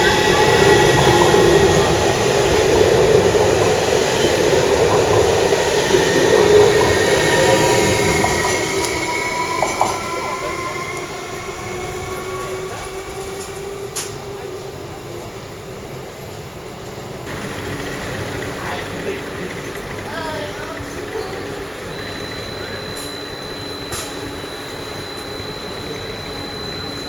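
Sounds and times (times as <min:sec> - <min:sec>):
wheel squeal: 0:00.0 - 0:14.2, 0:17.3 - 0:27.0
electric train running on rails: 0:00.0 - 0:27.0.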